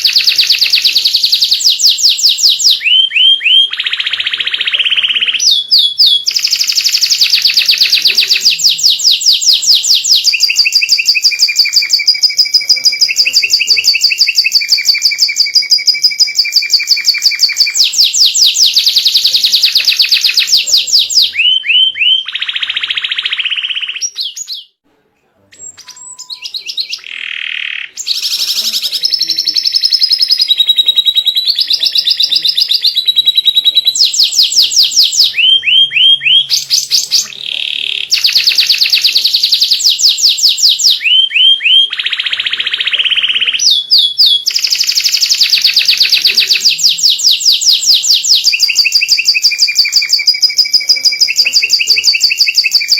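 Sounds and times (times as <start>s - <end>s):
canary singing trills: 0.0s - 24.8s, 25.5s - 52.9s.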